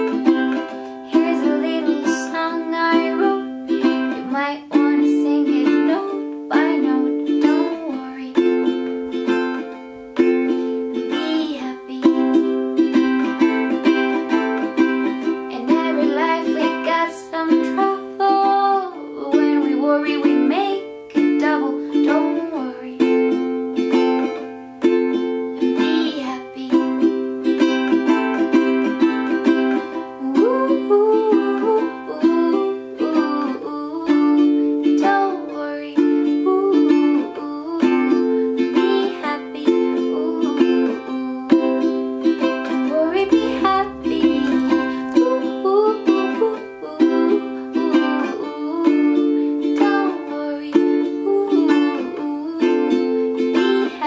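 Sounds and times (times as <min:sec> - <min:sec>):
plucked-string music: 0:00.0 - 0:54.0.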